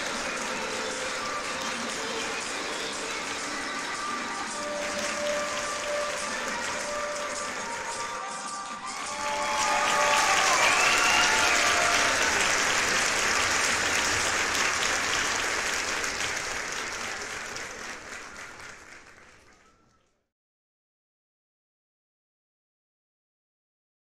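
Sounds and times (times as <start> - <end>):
audience applauding: 0.0 - 20.2.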